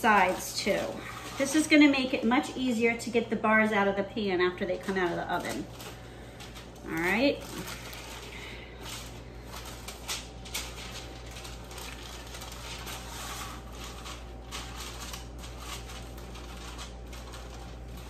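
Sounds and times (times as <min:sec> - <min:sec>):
aluminium foil crinkling: 0:00.0 - 0:18.0
steady low hum: 0:00.0 - 0:18.0.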